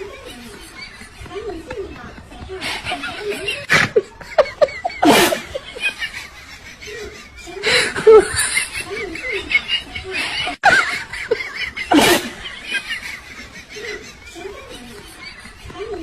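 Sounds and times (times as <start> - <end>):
people laughing: 0.0 - 16.0.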